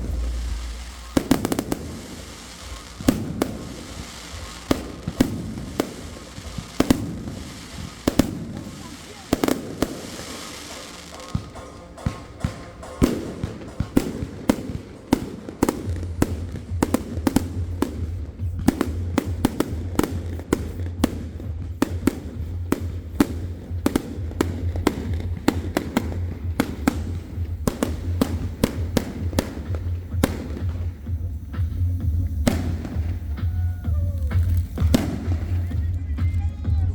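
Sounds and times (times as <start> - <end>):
fireworks banging: 0.0 - 36.9
music with steady bass: 0.0 - 36.9.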